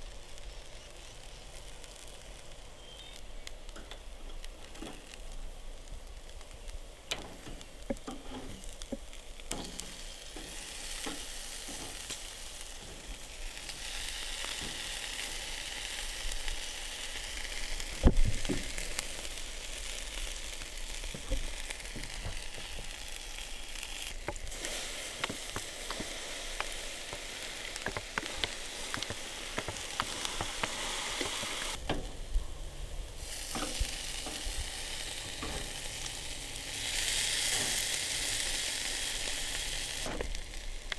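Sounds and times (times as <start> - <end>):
steak sizzling on a grill: 0.0 - 40.9.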